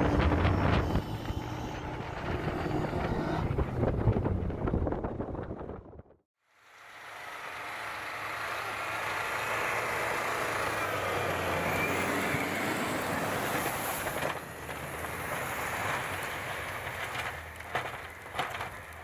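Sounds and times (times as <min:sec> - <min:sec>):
off-road engine revving: 0:00.0 - 0:05.4, 0:07.1 - 0:19.0
wheels spinning in snow: 0:00.0 - 0:06.0, 0:06.6 - 0:19.0.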